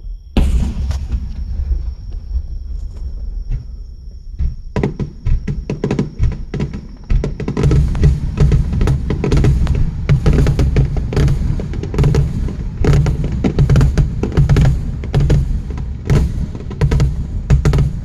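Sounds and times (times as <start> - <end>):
fireworks booming: 0.0 - 18.0
fireworks crackling: 0.4 - 18.0.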